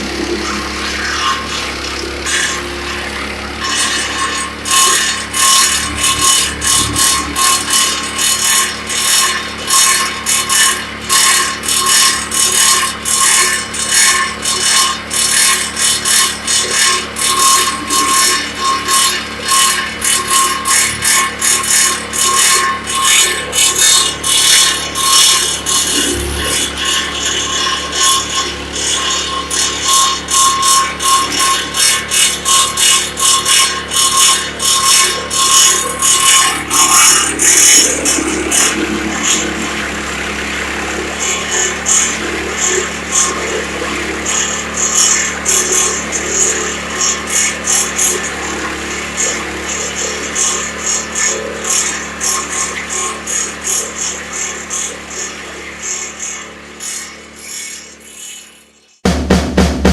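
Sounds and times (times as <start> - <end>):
branch shredder engine whine: 0.0 - 59.0.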